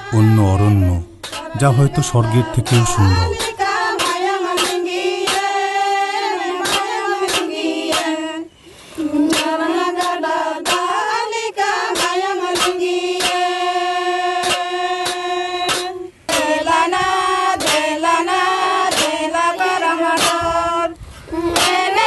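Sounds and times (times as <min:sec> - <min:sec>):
women singing in unison: 0:01.0 - 0:22.0.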